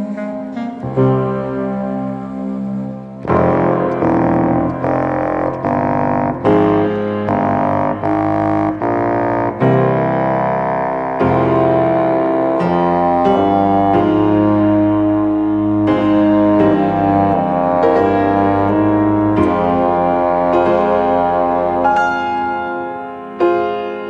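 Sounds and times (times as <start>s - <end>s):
instrumental music: 0.0s - 24.0s.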